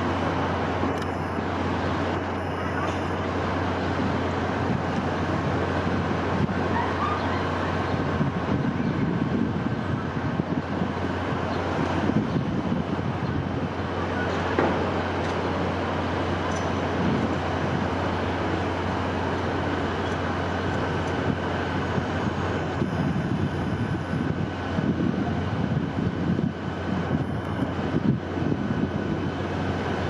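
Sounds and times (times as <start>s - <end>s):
rushing wind with low rumble: 0.0s - 30.0s.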